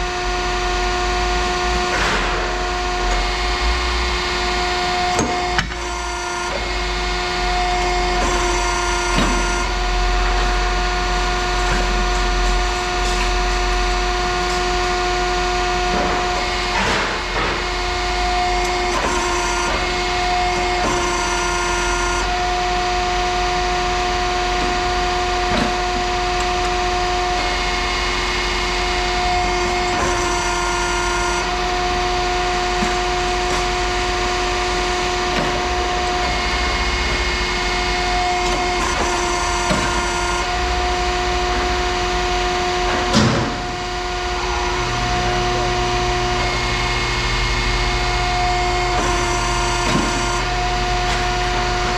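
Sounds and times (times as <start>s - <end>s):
machine humming: 0.0s - 51.9s.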